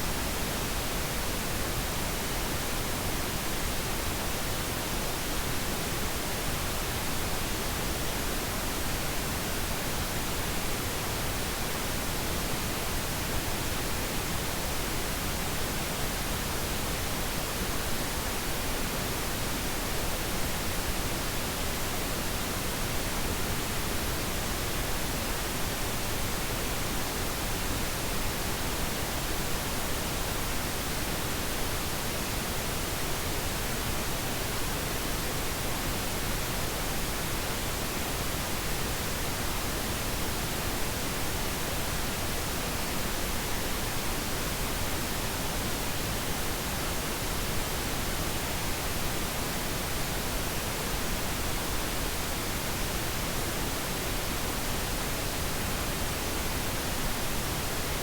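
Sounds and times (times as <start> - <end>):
steady pink noise: 0.0 - 58.0.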